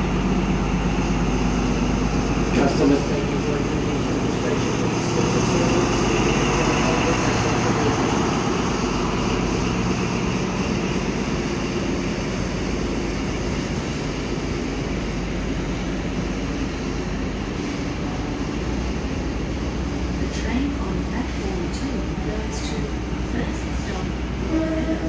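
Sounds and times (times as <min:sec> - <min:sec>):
diesel train engine drone: 0:00.0 - 0:25.0.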